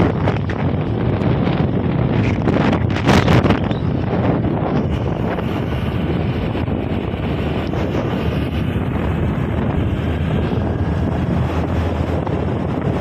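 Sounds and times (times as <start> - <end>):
road and engine noise: 0.0 - 13.0
wind buffeting microphone: 0.0 - 13.0.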